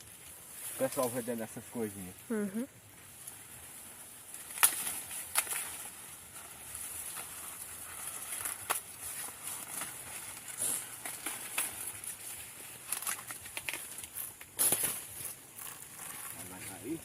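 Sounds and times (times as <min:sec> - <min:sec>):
dry corn plants rustling: 0:00.0 - 0:17.0
steady high hiss: 0:00.0 - 0:17.0.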